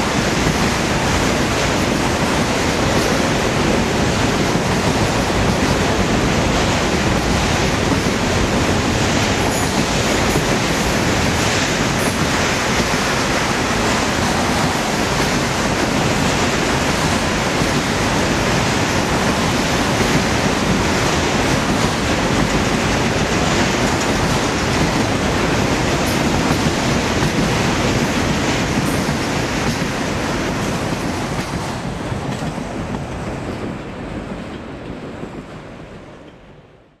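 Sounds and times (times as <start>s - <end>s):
steel wheels clattering on rails: 0.0s - 35.4s
freight train rolling past: 0.0s - 37.0s.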